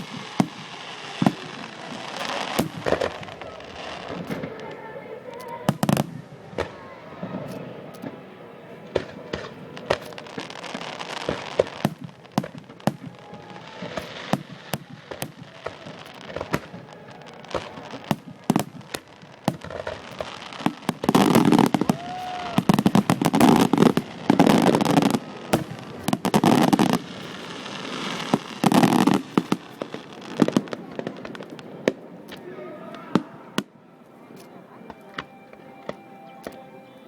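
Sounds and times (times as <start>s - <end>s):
fireworks banging and crackling: 0.0s - 36.9s.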